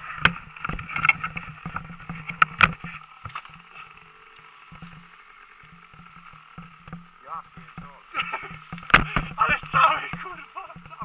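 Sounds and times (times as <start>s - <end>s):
dirt bike knocks and clattering: 0.1s - 3.8s, 4.7s - 11.0s.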